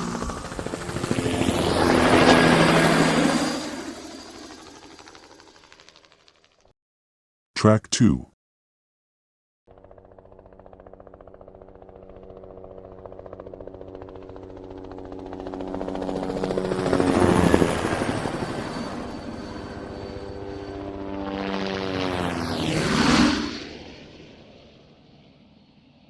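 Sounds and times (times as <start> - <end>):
helicopter flying by: 0.0 - 6.7, 9.7 - 26.0.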